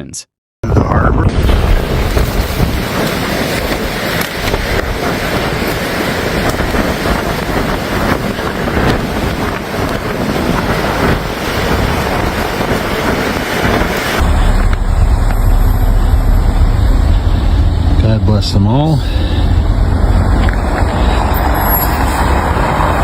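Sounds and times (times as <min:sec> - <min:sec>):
strong wind buffeting microphone: 0:00.6 - 0:23.0.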